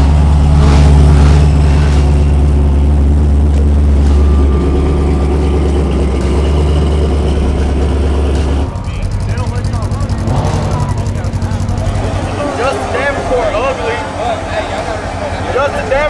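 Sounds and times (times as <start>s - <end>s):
drag car engine idling: 0.0s - 16.0s.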